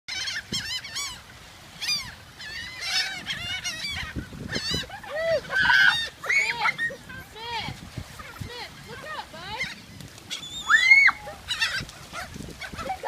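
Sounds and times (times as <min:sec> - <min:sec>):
seagulls squawking: 0:00.1 - 0:13.0.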